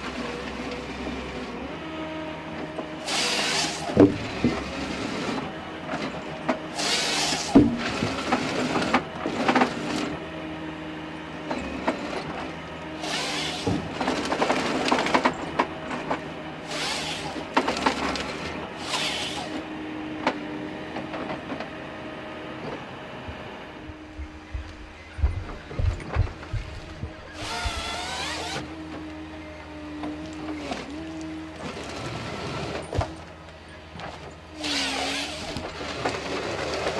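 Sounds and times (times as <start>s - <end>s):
saw cutting logs: 0.0s - 23.0s, 26.1s - 36.9s
harvester engine and hydraulics: 0.0s - 36.9s.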